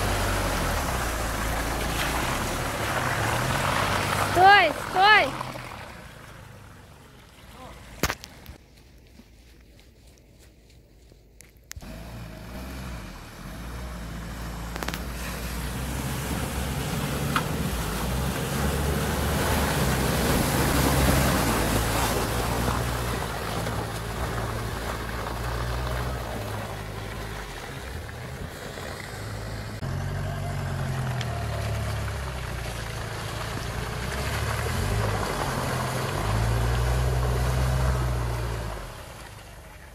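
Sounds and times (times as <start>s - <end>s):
van engine: 0.0s - 8.6s, 11.7s - 39.9s
wind and road noise: 0.0s - 39.9s.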